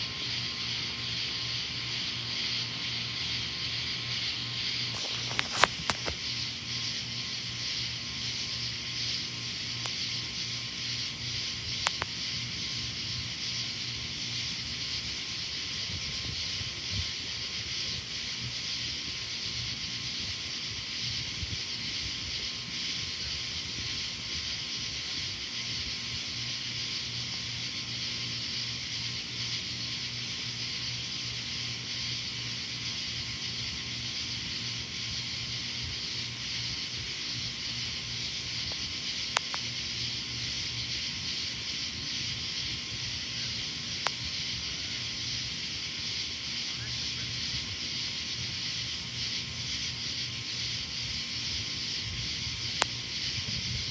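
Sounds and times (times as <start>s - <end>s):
faint steady hum: 0.0s - 53.9s
high-pitched outdoor night hiss: 0.0s - 53.9s.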